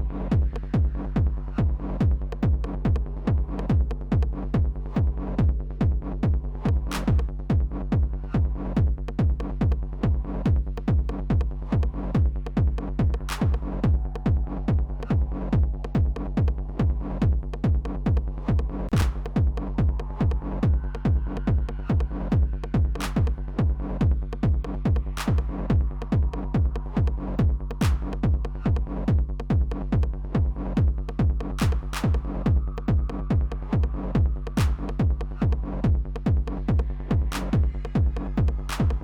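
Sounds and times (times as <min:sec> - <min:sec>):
kick drum: 0:00.0 - 0:39.0
low bass tone: 0:00.0 - 0:39.0.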